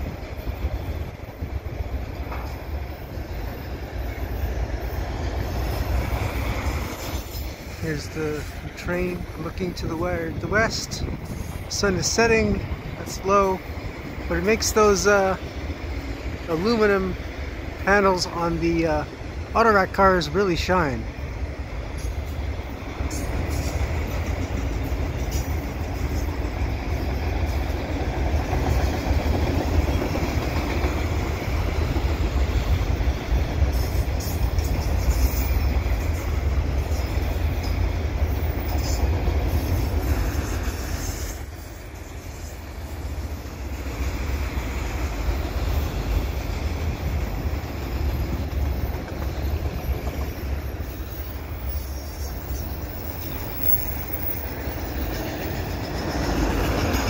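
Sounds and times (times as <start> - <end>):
steel train wheels rumbling on rail: 0.0 - 57.0.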